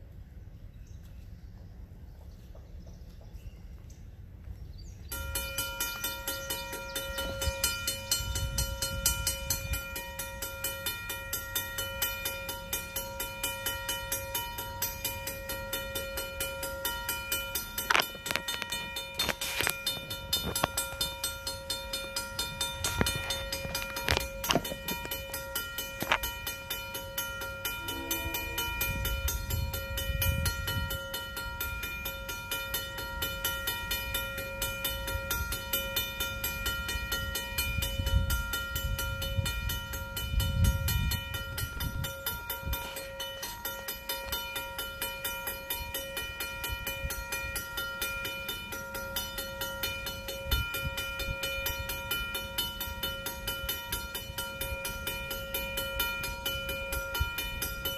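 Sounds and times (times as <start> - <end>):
mechanical crossing bell ringing: 5.1 - 57.9.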